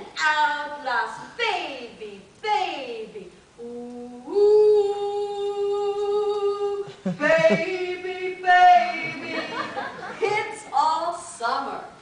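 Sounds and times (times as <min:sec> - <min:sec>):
woman singing unaccompanied: 0:00.0 - 0:11.8.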